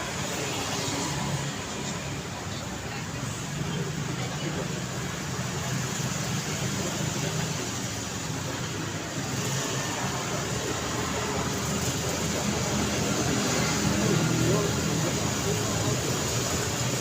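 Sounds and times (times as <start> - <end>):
road noise of passing cars: 0.0 - 17.0.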